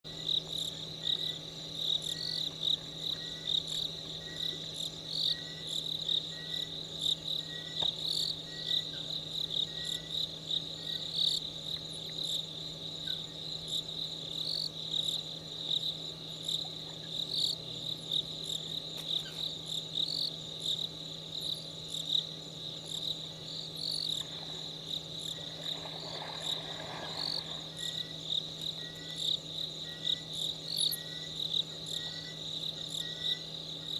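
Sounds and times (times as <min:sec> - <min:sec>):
crickets trilling: 0:00.0 - 0:33.9
steady low hum: 0:00.0 - 0:33.9.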